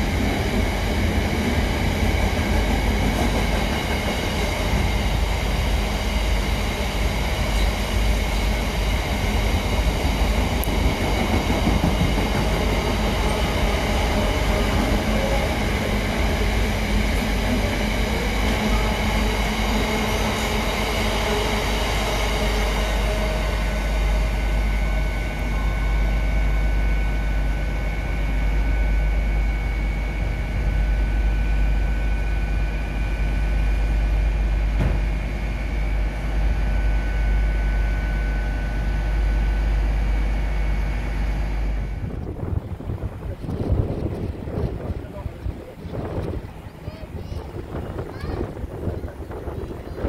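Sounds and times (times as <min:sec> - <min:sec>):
freight train rumbling: 0:00.0 - 0:50.0.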